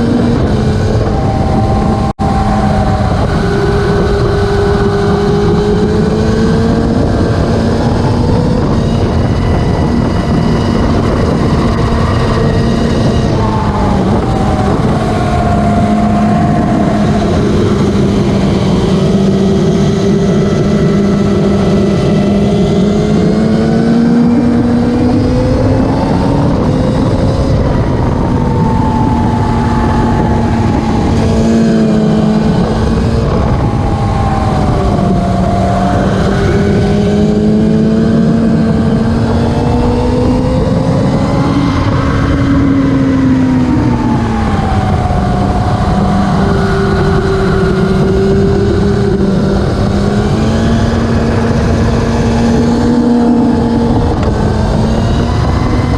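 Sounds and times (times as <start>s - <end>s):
racing motorcycle engines revving: 0.0s - 55.9s.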